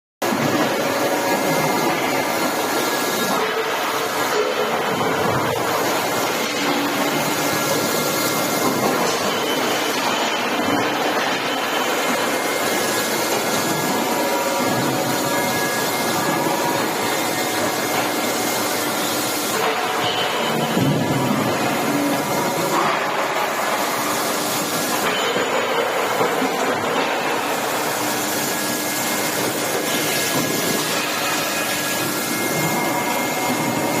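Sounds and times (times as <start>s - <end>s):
machinery rushing hum: 0.2s - 34.0s.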